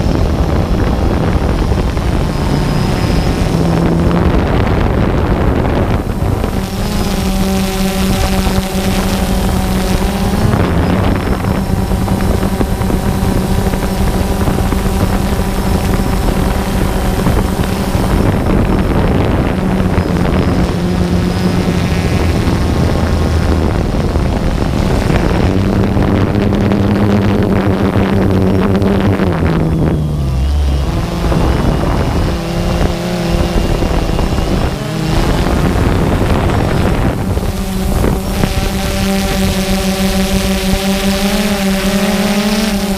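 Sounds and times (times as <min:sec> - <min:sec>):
drone propellers buzzing: 0:00.0 - 0:42.9.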